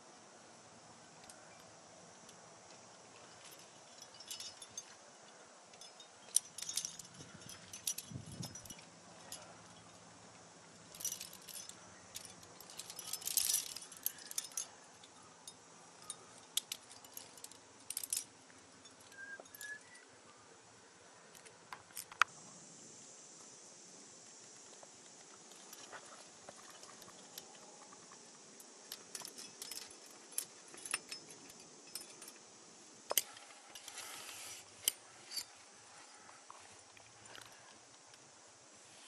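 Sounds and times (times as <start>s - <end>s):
metal climbing gear clinking: 1.2s - 20.0s, 21.3s - 22.3s, 25.2s - 38.3s.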